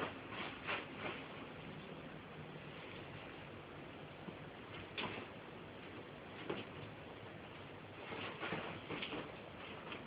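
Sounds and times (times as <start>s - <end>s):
faint room hiss: 0.0s - 10.0s.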